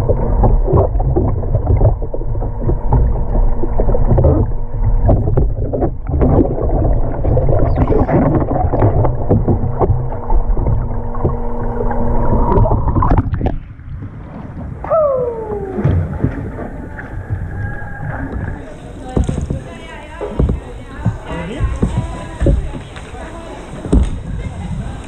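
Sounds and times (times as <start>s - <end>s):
faint steady hum: 0.0s - 25.0s
water splashing against kayak: 0.0s - 25.0s.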